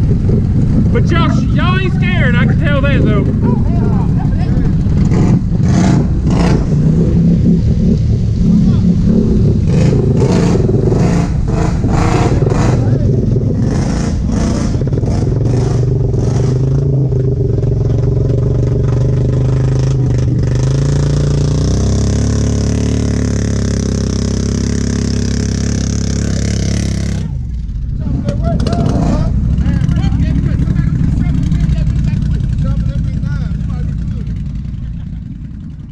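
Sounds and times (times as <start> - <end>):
atv engine revving: 0.0 - 35.9.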